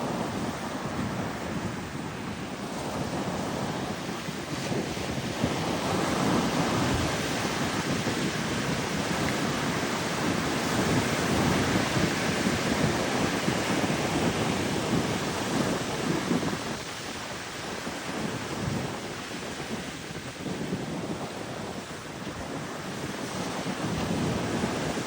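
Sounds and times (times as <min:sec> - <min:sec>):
ocean waves washing ashore: 0:00.0 - 0:25.0
wind rumbling on microphone: 0:00.0 - 0:25.0.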